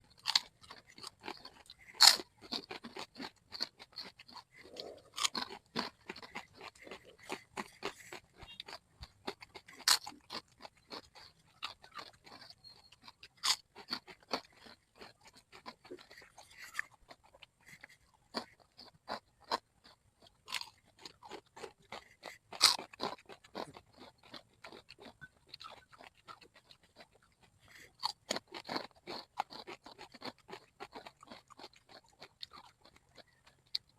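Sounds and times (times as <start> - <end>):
crisp crunches of chewing: 0.0 - 33.9.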